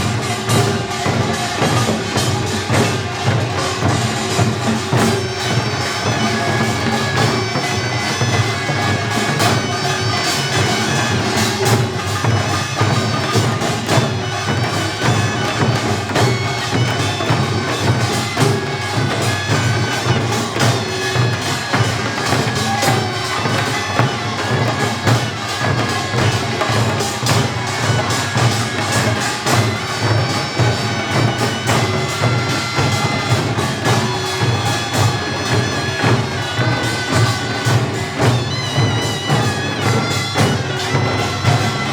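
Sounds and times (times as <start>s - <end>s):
drums: 0.0s - 41.9s
gongs: 0.0s - 41.9s
reedy shawm melody: 0.0s - 41.9s.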